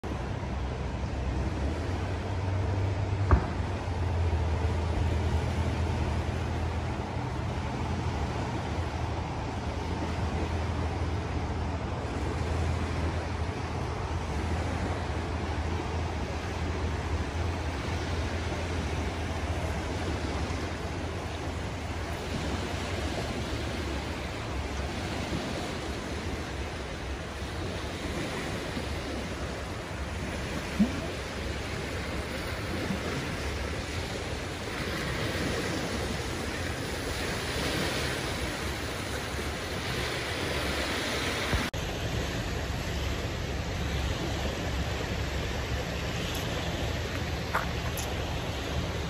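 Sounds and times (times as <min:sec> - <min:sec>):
waves washing on pebble beach: 0:01.3 - 0:49.0.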